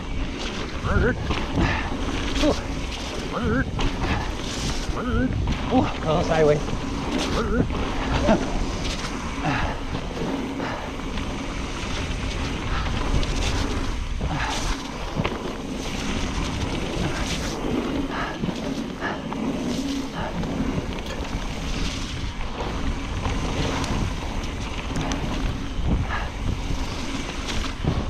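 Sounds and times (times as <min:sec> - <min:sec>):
bike knocks and rattles: 0:00.0 - 0:28.0
bike tyres rumbling on dirt: 0:00.0 - 0:28.0
wind over microphone: 0:00.0 - 0:28.0.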